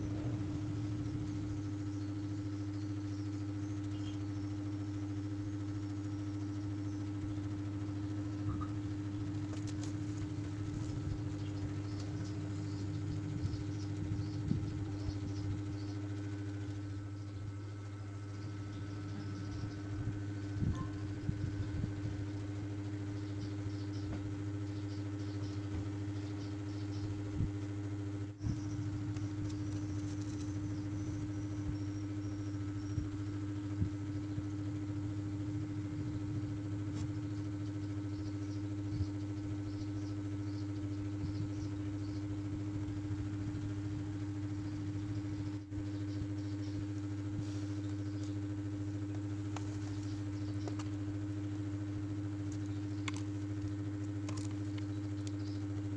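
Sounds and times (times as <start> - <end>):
low electric hum: 0.0 - 55.9.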